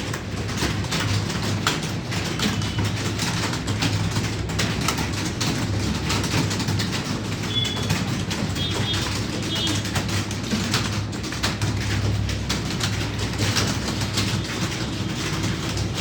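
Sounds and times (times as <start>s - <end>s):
keyboards clattering: 0.0s - 16.0s.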